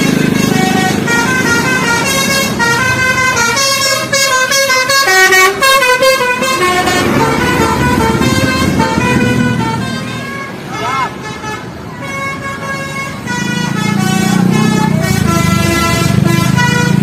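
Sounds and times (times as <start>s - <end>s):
bus engine running: 0.0s - 17.0s
bus horn playing a melody: 0.0s - 17.0s.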